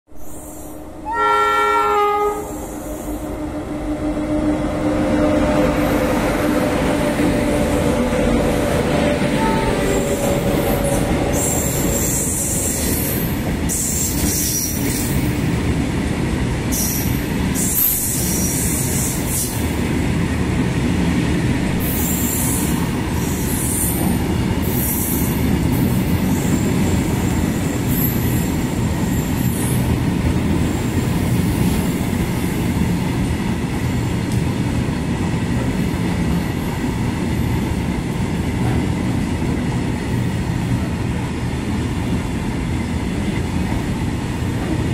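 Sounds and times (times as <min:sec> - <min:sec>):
train wheels rumbling on rail: 0:00.1 - 0:44.9.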